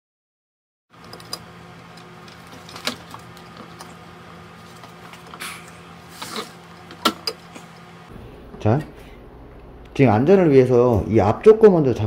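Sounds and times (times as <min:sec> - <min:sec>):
steady low hum: 0:01.0 - 0:12.0.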